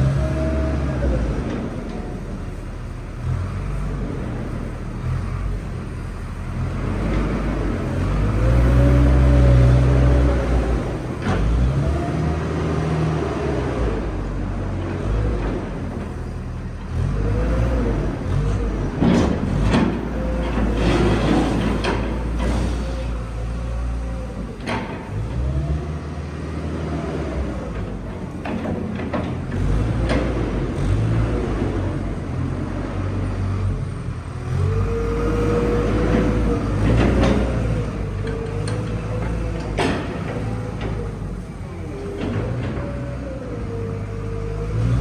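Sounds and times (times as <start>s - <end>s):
machine engine rumbling: 0.0s - 45.0s.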